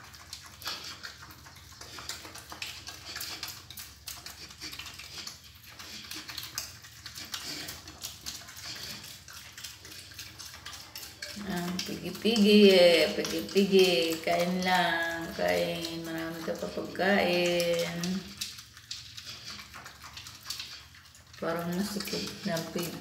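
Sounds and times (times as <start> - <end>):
pig chewing pellet feed: 0.0 - 23.0.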